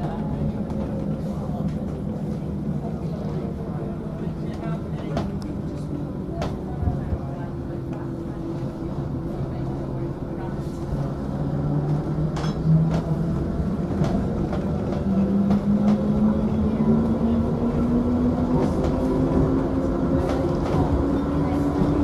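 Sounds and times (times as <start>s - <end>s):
train diesel engine: 0.0s - 22.0s.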